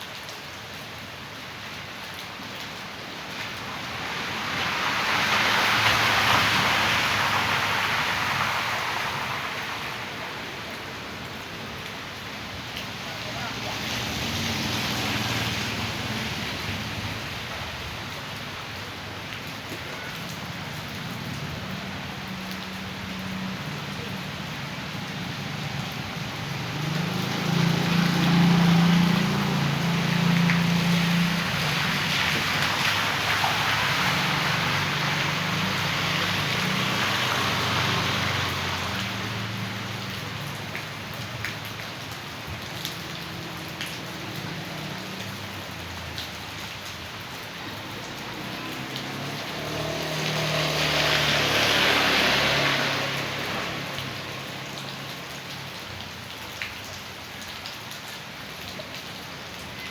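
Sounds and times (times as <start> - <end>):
rain falling: 0.0 - 59.9
rainwater runoff rushing: 0.0 - 59.9.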